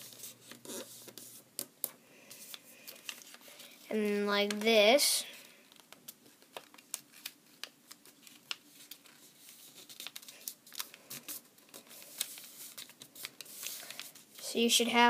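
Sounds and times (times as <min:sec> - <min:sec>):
paper crinkling as folded: 0:02.3 - 0:14.8.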